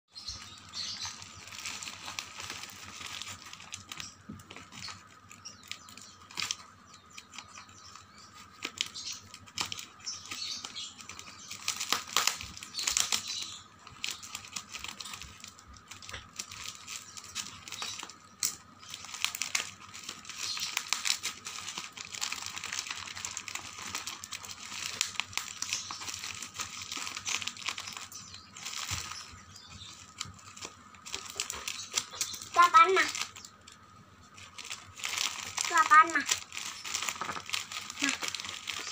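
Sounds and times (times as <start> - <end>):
plastic wrapping crinkling and tearing: 0.1 - 38.9.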